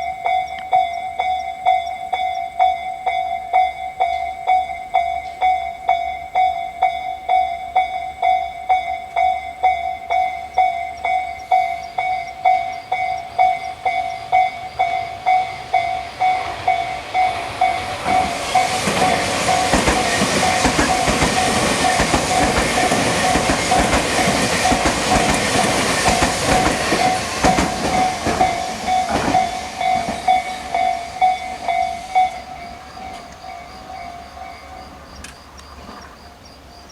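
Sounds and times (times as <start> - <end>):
level crossing warning bell ringing: 0.0 - 35.6
electric train passing: 0.0 - 36.9.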